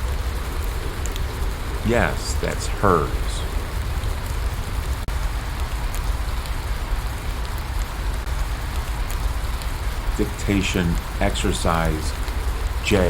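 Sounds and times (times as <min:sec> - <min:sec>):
low rumble: 0:00.0 - 0:13.0
steady rain falling: 0:00.0 - 0:13.0.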